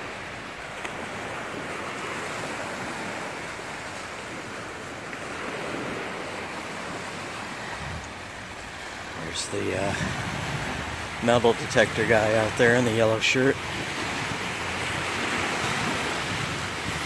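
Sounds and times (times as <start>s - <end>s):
small waves washing on sand: 0.0s - 17.0s.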